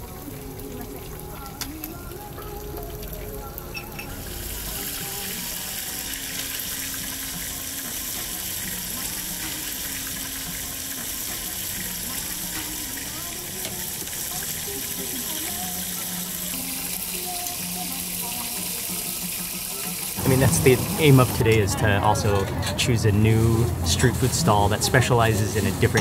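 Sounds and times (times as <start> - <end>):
deep-frying sizzle in hot oil: 0.0 - 21.4.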